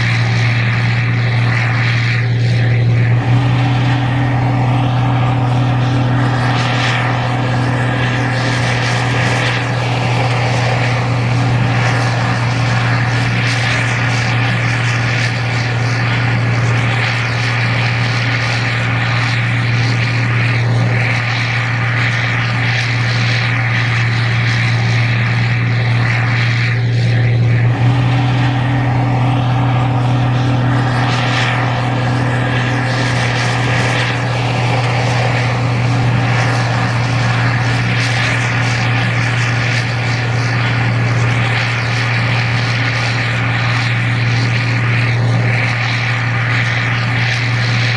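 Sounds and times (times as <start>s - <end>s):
combine harvester droning: 0.0s - 47.9s.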